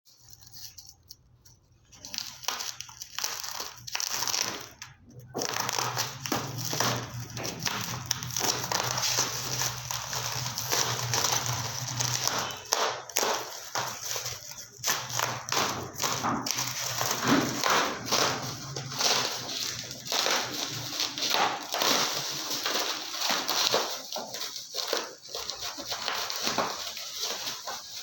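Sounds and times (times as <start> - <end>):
packaging wrapping crinkling: 0.1 - 28.0.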